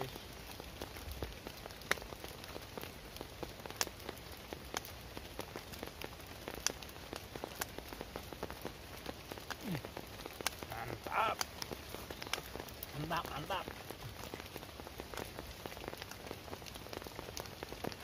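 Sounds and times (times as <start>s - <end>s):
rain on plastic tarp: 0.0s - 18.0s.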